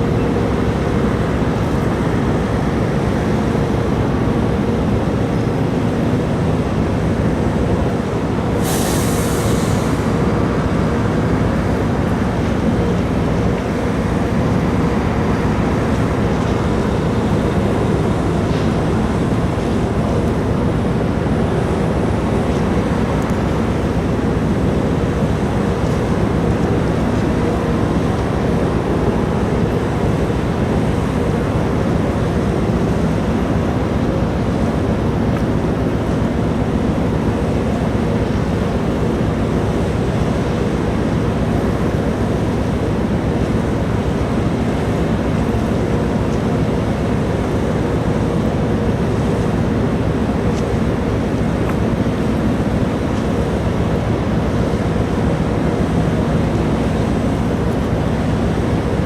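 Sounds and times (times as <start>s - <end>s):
ferry engines droning: 0.0s - 59.0s
rush of wind and water: 0.0s - 59.0s.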